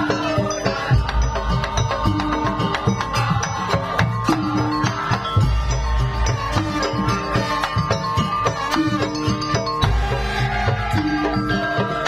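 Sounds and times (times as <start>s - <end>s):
instrumental music with drums: 0.0s - 12.0s.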